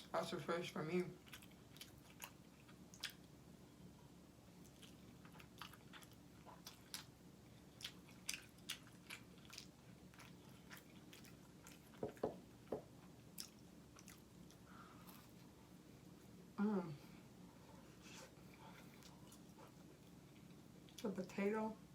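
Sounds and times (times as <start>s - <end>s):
person chewing food: 1.2s - 3.4s, 4.5s - 16.4s, 17.2s - 21.0s.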